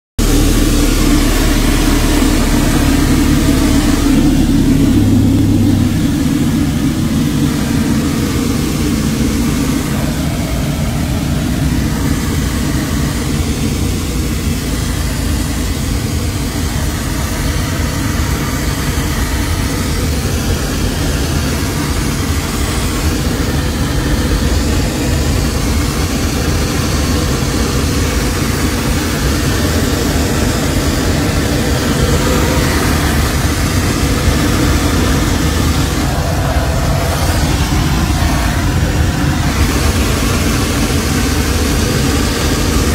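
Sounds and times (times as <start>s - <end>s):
engine and rushing air roar: 0.0s - 42.9s.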